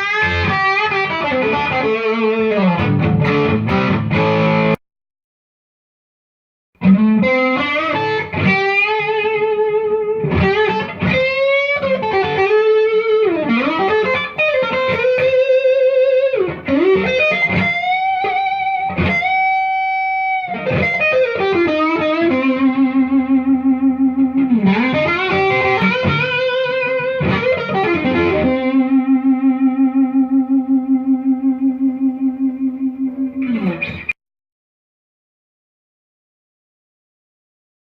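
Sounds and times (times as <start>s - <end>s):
overdriven electric guitar lead: 0.0s - 4.8s, 6.8s - 34.2s.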